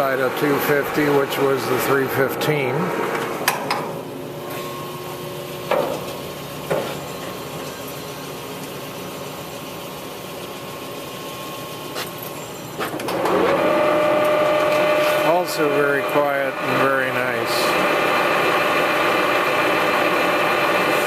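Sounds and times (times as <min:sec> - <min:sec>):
lathe headstock humming: 0:00.1 - 0:21.0.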